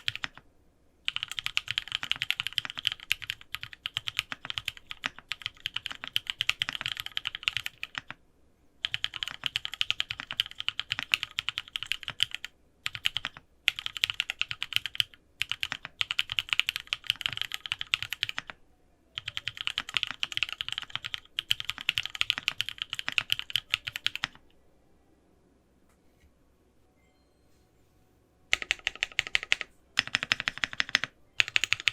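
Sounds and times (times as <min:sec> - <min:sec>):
typing on mechanical keyboard: 0:00.0 - 0:00.4, 0:01.1 - 0:08.2, 0:08.8 - 0:18.6, 0:19.2 - 0:24.5, 0:28.5 - 0:31.9.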